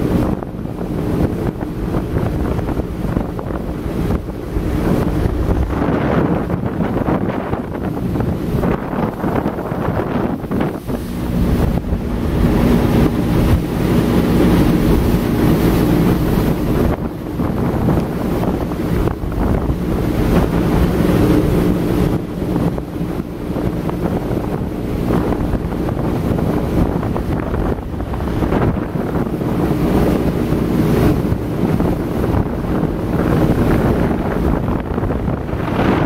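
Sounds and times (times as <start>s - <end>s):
motorboat engine hum: 0.0s - 36.0s
water rushing past hull: 0.0s - 36.0s
wind buffeting microphone: 0.0s - 36.0s.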